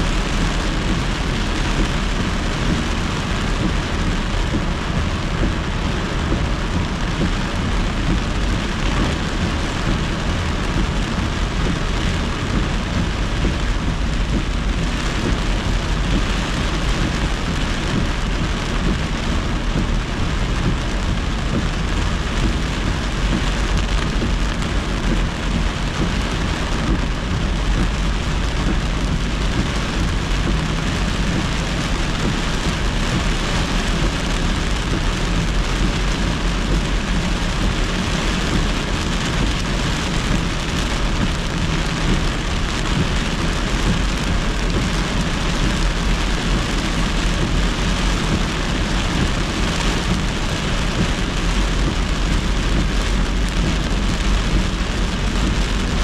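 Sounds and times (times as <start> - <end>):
heavy rain hitting a car: 0.0 - 56.0
low road rumble: 0.0 - 56.0.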